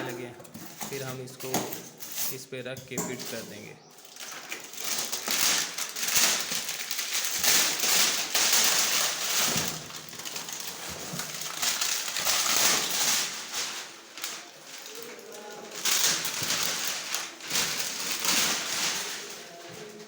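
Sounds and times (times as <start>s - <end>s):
packaging rustling and crinkling: 0.0s - 20.0s.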